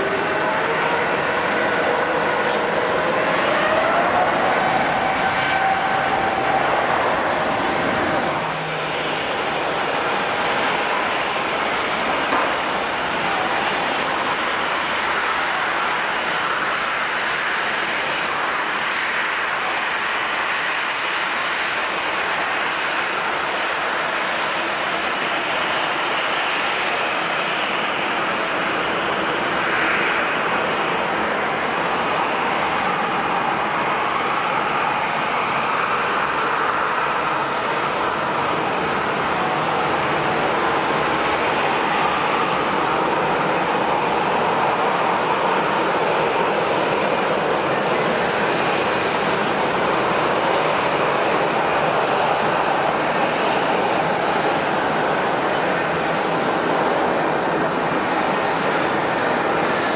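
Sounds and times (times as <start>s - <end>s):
airliner engines running: 0.0s - 59.9s.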